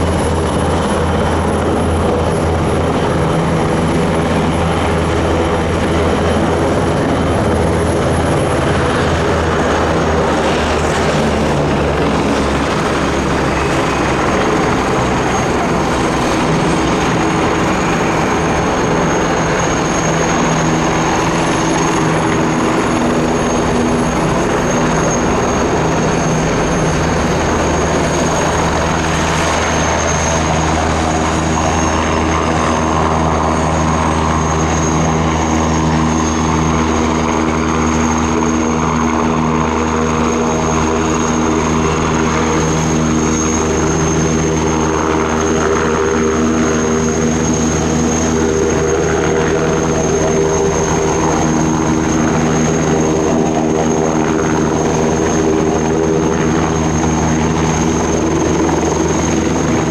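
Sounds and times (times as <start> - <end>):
helicopter rotor beating: 0.0 - 59.9
high turbine whine: 0.0 - 59.9.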